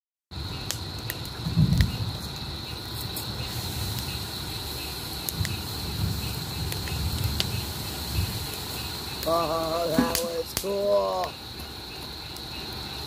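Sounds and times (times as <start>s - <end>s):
crickets chirring: 0.3s - 13.0s
fire crackling and popping: 0.3s - 13.0s.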